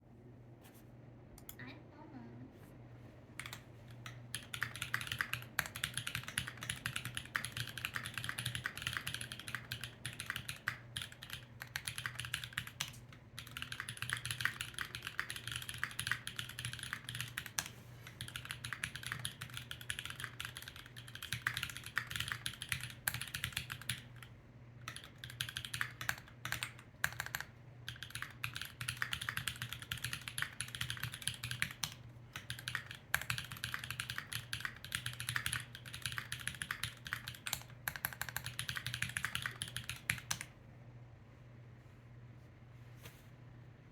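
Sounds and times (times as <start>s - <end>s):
typing on mechanical keyboard: 3.4s - 40.5s.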